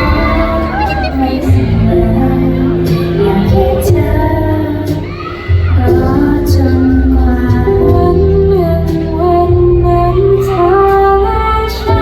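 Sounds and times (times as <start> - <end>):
backing music: 0.0 - 12.0
woman singing: 0.0 - 12.0.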